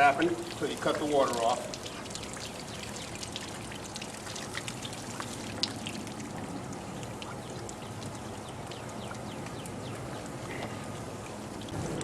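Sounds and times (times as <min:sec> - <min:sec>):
water drips and splashes: 0:00.0 - 0:12.0
water spraying from a pipe: 0:00.0 - 0:12.0.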